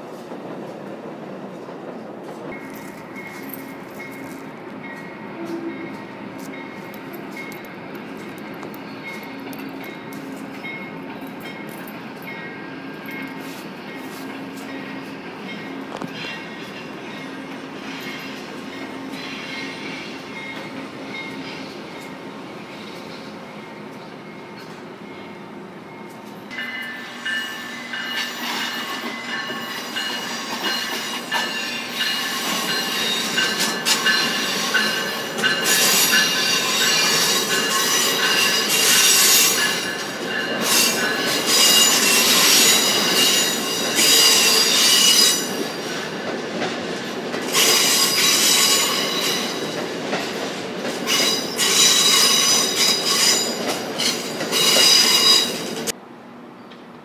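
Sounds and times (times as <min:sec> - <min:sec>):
train rumble: 0:00.0 - 0:56.1
train wheels squealing on rails: 0:01.4 - 0:57.0.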